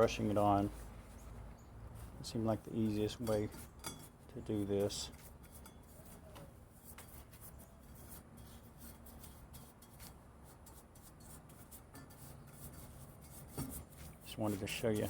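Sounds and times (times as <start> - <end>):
paintbrush scratching on metal: 0.0 - 15.0.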